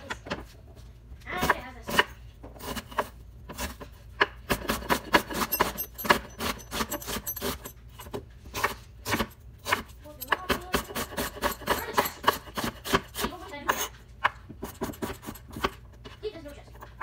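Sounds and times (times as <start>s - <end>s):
knife chopping on wooden board: 1.4s - 16.2s.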